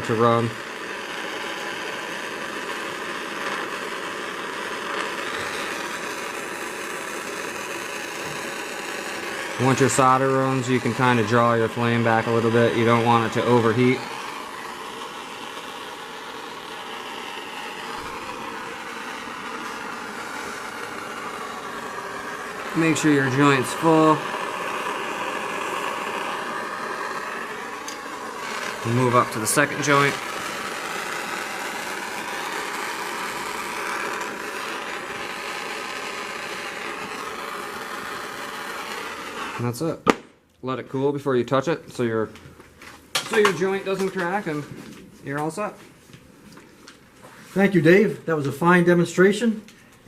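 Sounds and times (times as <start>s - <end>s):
gas torch flame hissing: 0.0s - 40.2s, 42.5s - 50.0s.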